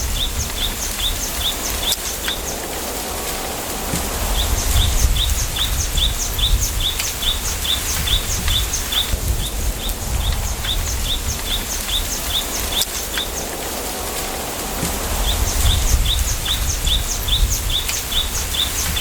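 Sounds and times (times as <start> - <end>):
wind rumbling in bamboo: 0.0 - 19.0.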